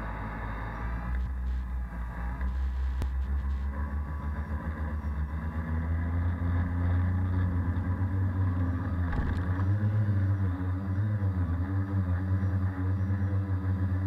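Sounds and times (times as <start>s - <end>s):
drone motors and propellers buzzing: 0.0s - 14.0s.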